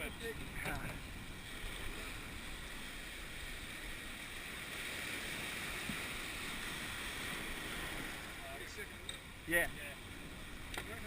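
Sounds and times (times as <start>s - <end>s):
waves washing on beach: 0.0s - 11.0s.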